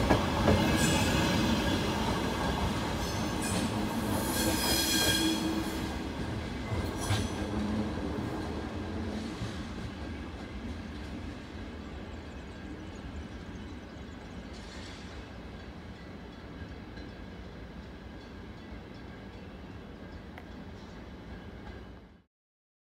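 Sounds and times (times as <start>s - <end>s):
train low rumble: 0.0s - 22.2s.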